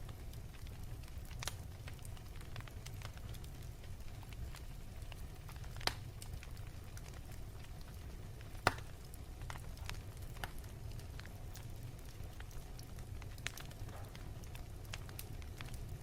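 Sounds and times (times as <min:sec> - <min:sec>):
fire crackles and pops: 0:00.0 - 0:16.0
low fire rumble: 0:00.0 - 0:16.0.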